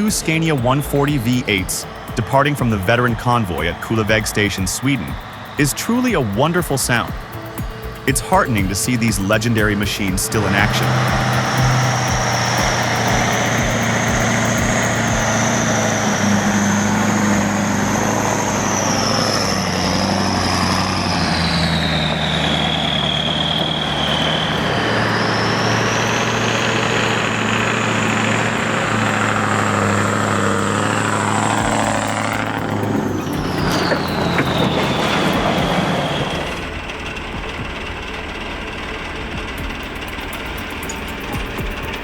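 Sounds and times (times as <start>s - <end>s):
diesel truck engines pulling away: 0.0s - 42.0s
high whistle: 0.0s - 42.0s.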